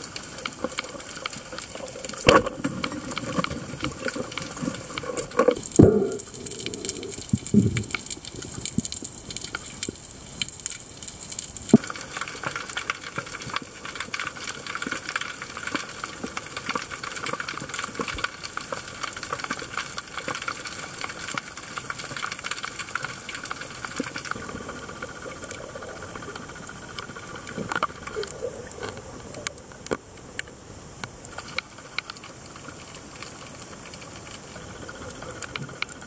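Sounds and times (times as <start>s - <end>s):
fast crackling clicks underwater: 0.0s - 36.0s
steady hiss: 0.0s - 36.0s.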